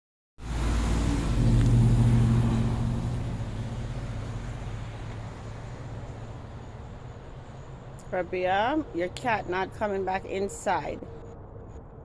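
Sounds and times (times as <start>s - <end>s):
vehicle engine hum: 0.4s - 12.0s.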